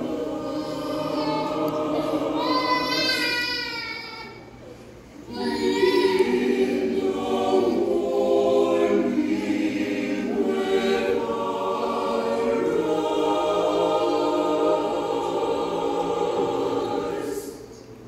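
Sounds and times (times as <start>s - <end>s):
a cappella choir singing: 0.0s - 3.7s, 5.2s - 18.0s.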